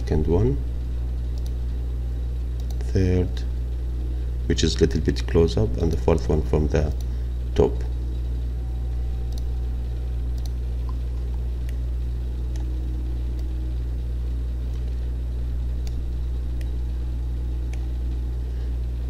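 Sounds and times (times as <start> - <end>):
electrical hum and hiss: 0.0 - 19.0.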